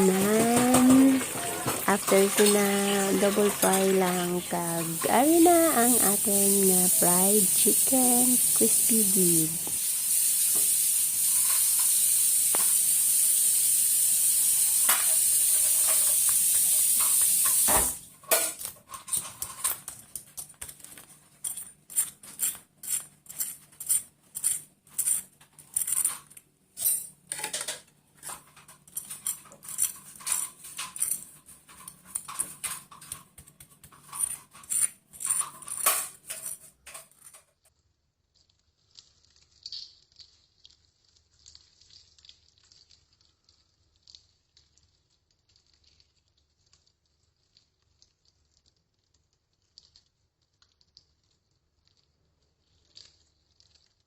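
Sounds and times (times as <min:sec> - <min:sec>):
chicken deep-frying in oil: 0:00.0 - 0:54.0
oil crackles and clicks: 0:00.0 - 0:54.0.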